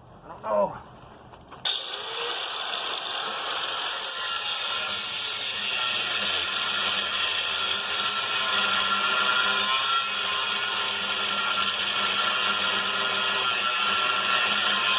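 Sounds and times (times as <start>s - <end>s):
power tool cutting steel: 1.6s - 14.9s.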